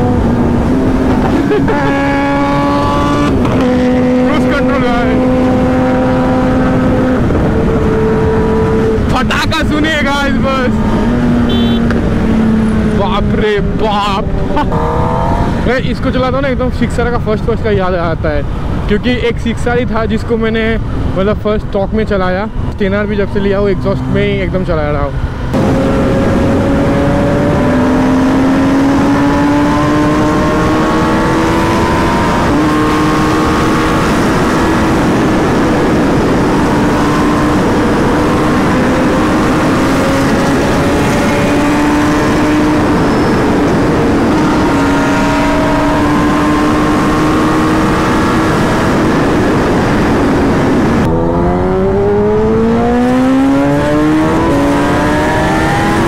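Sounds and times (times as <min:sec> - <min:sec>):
wind rushing: 0:00.0 - 0:16.6, 0:25.1 - 0:56.0.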